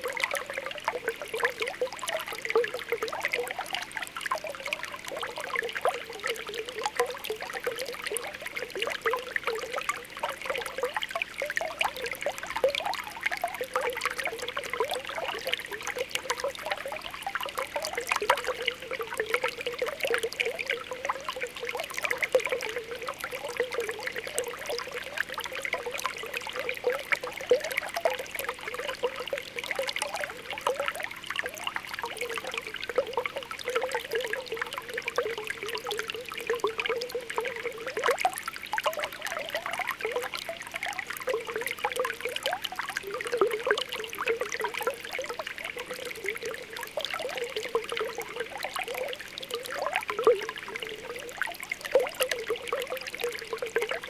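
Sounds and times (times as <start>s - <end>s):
spring water bubbling: 0.0s - 54.0s.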